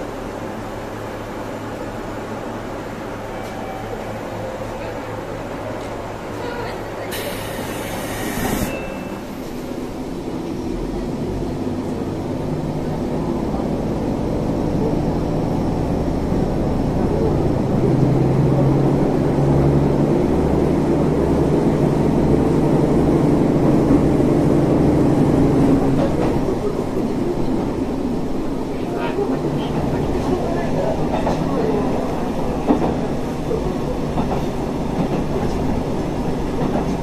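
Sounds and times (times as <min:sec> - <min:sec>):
diesel railcar engine under load: 0:00.0 - 0:37.0
train running noise: 0:00.0 - 0:37.0.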